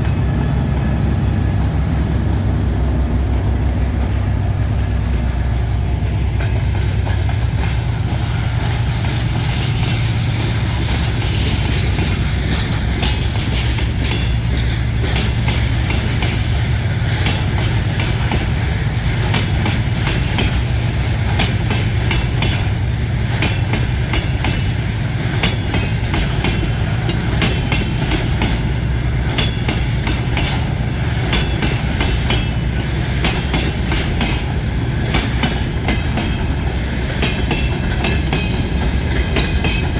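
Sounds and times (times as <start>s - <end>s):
freight train rumbling past: 0.0s - 39.9s
train wheels clacking: 0.0s - 39.9s.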